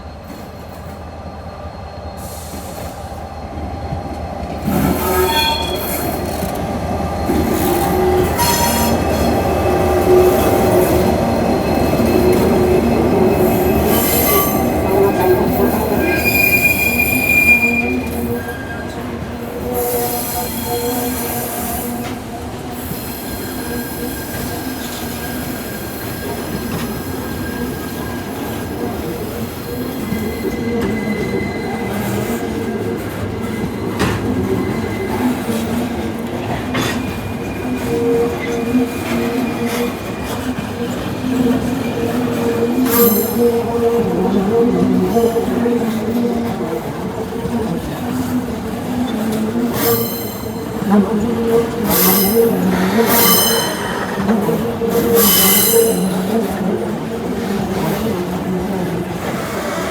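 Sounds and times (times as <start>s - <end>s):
train wheels rolling over rails: 2.2s - 59.9s
wheel squeals: 4.6s - 6.6s, 7.2s - 22.2s, 22.8s - 47.0s, 47.7s - 56.7s.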